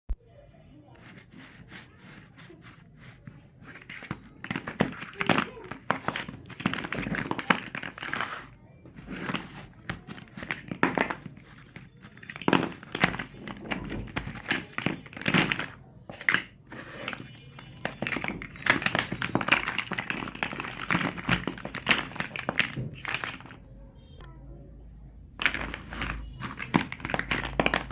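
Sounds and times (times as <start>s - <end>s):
plastic blocks clicking and clattering: 1.0s - 23.6s, 25.4s - 27.9s.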